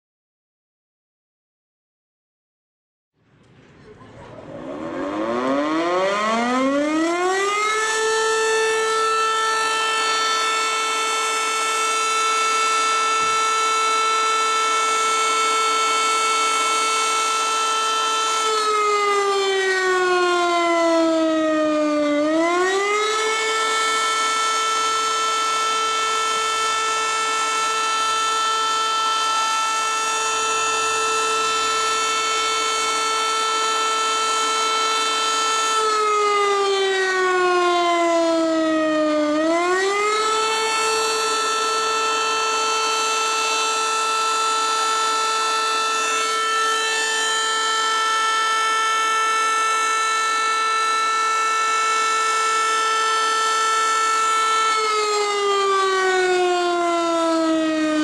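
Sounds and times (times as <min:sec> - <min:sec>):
wailing alarm siren: 0:04.1 - 0:58.0.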